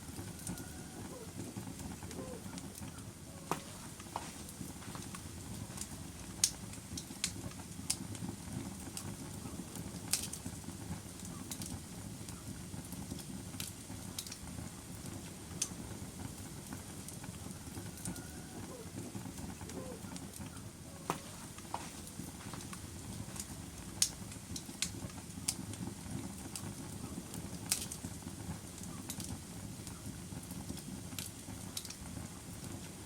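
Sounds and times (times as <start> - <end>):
log fire crackling: 0.0 - 33.0
low rumble of burning: 0.0 - 33.0.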